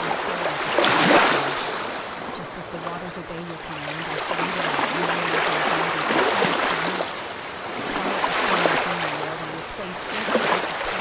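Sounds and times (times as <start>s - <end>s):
ocean surf washing: 0.0s - 11.0s.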